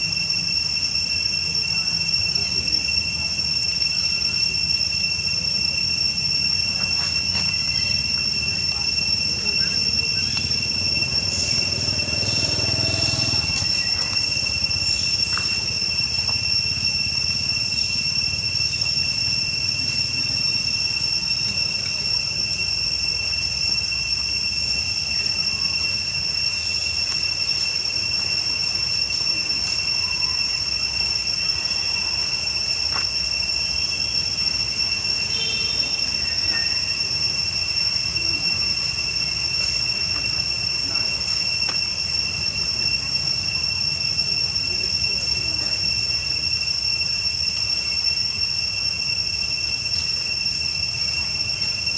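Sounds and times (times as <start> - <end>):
shrill insect chorus: 0.0 - 51.9.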